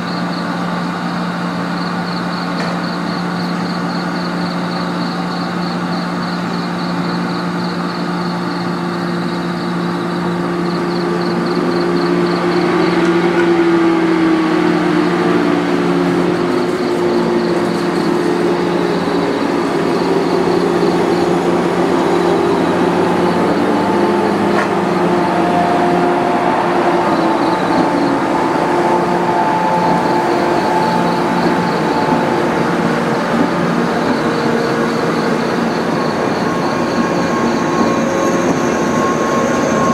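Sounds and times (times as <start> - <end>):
electric train humming: 0.0 - 39.9
traction motors whining: 0.0 - 39.9
train wheels on rails: 0.0 - 39.9.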